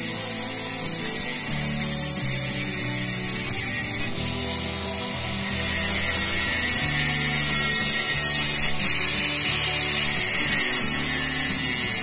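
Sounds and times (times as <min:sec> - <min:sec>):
background music: 0:00.0 - 0:12.0
power tool whining: 0:00.0 - 0:12.0.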